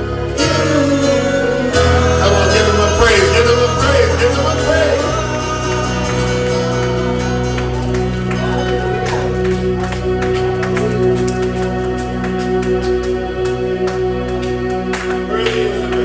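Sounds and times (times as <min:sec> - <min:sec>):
gospel band playing: 0:00.0 - 0:16.0
person singing: 0:00.0 - 0:16.0.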